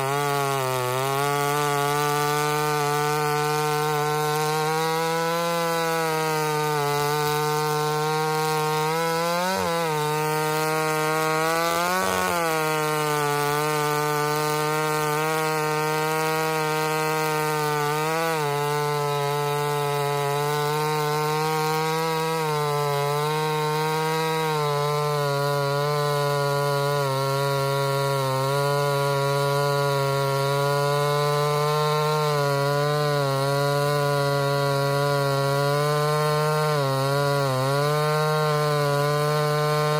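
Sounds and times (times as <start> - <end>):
chainsaw cutting firewood: 0.0 - 39.9.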